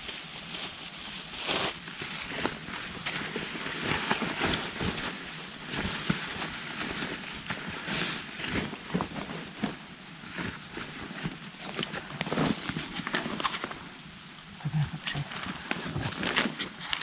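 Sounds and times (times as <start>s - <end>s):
footsteps crunching through dry leaves: 0.0s - 13.8s.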